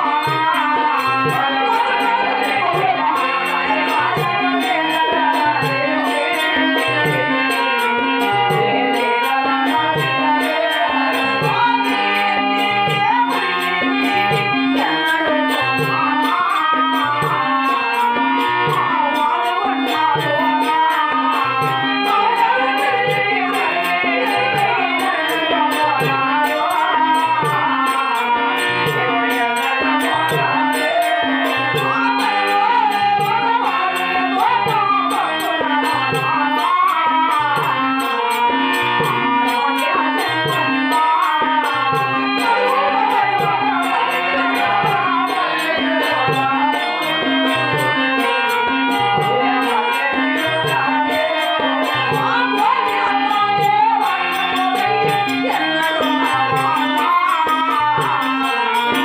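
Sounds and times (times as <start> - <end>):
harmonium: 0.0 - 59.0
woman singing: 0.0 - 59.0.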